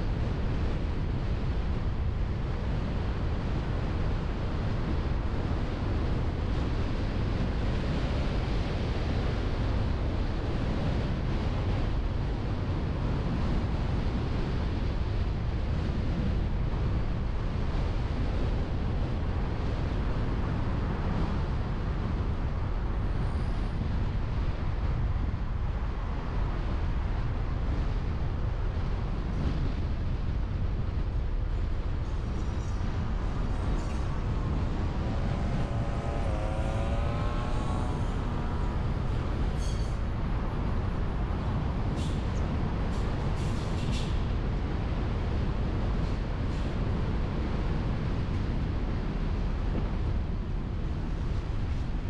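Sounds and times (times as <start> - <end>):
car road noise: 0.0 - 52.0
wind rush on microphone: 0.0 - 52.0.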